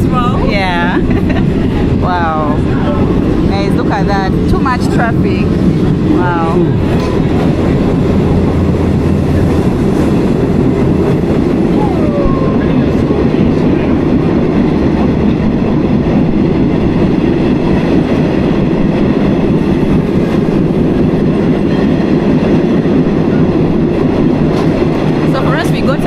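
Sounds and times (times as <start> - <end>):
train rumbling from inside carriage: 0.0 - 26.0.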